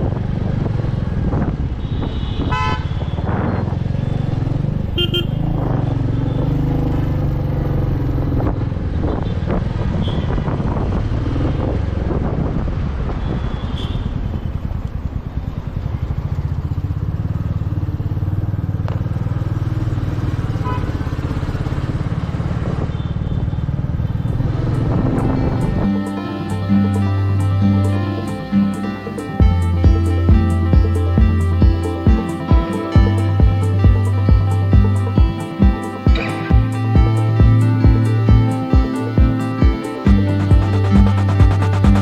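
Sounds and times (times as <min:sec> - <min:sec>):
wind and road noise: 0:00.0 - 0:42.0
motorcycle engine running: 0:03.0 - 0:09.8, 0:14.4 - 0:42.0.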